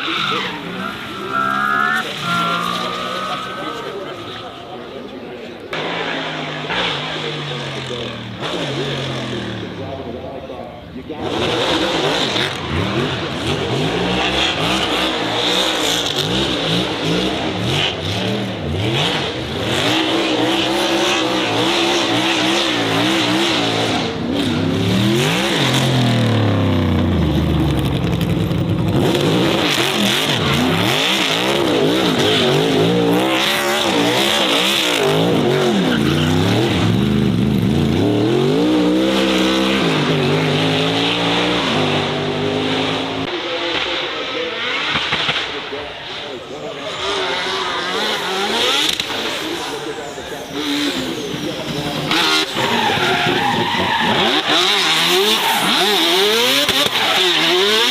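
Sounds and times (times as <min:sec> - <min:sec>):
racing car engine revving: 0:00.0 - 0:10.4, 0:11.0 - 0:57.9.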